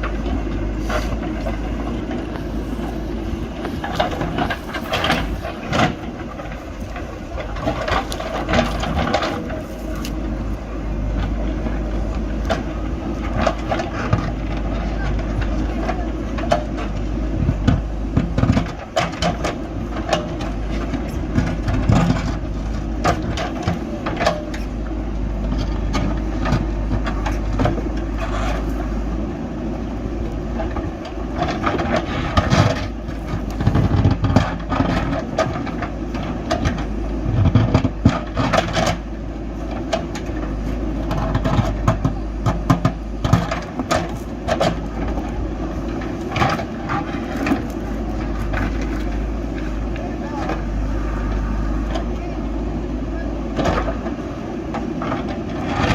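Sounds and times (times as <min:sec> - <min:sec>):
digging knocks and clanks: 0:00.0 - 0:10.4, 0:11.1 - 0:29.0, 0:30.5 - 0:50.9
diesel engine running under load: 0:00.0 - 0:55.9.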